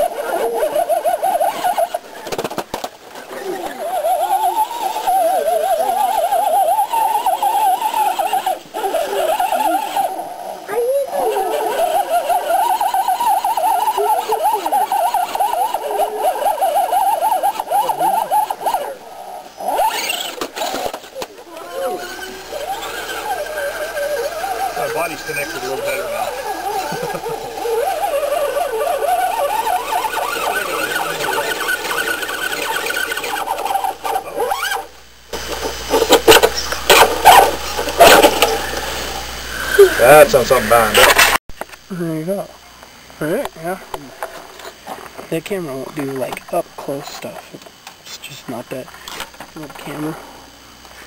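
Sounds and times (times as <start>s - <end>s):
rc car motor whining: 0.0s - 41.4s.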